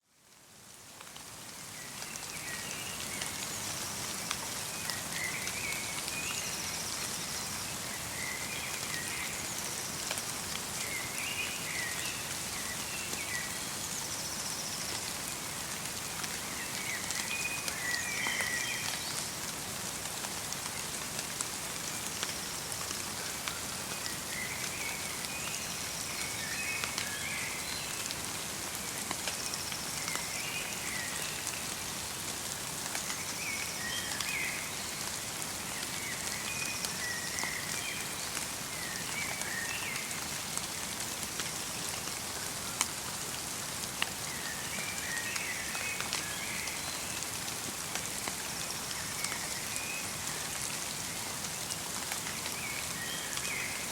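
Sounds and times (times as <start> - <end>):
light rain pattering: 0.0 - 53.9.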